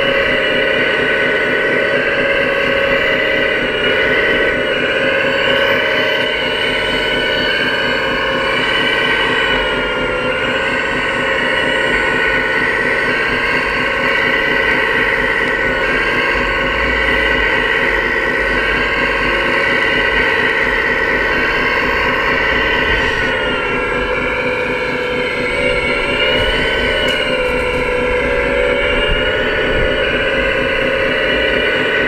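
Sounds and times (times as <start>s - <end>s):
electric motors whining: 0.0s - 32.0s.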